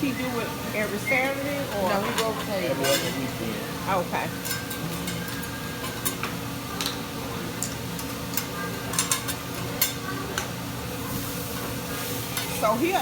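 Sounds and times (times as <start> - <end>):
food sizzling on griddle: 0.0 - 13.0.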